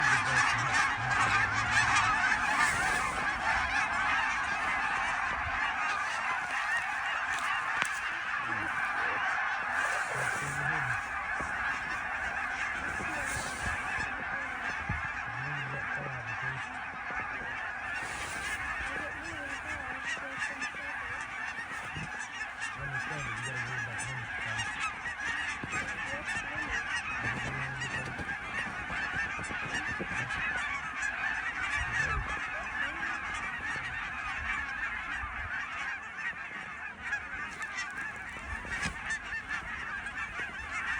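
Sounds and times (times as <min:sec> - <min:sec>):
flock of geese honking: 0:00.0 - 0:40.9.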